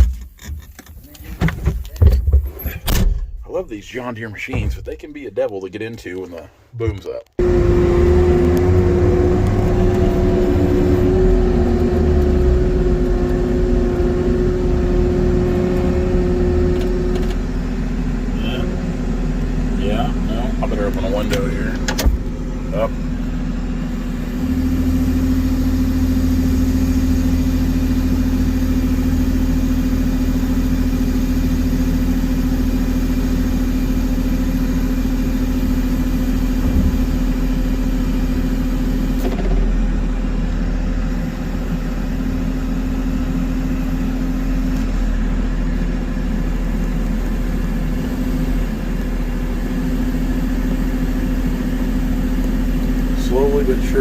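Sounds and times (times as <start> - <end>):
diesel engine running: 7.4 - 54.0.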